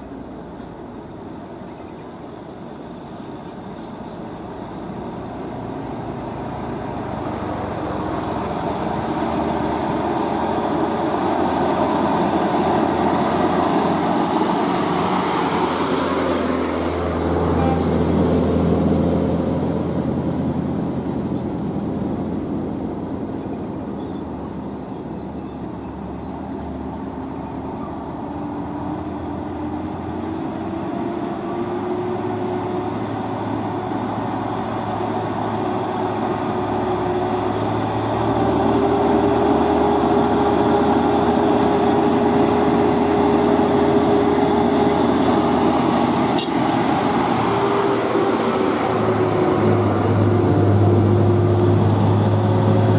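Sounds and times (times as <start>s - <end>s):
truck diesel engine: 0.0s - 52.9s
tyre and road noise: 2.2s - 52.9s.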